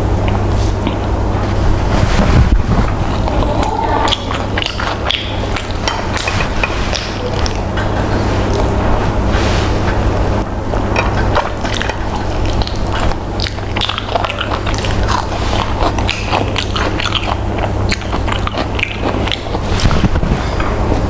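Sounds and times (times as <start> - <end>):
low background hum: 0.0 - 21.0
person chewing food: 0.2 - 21.0.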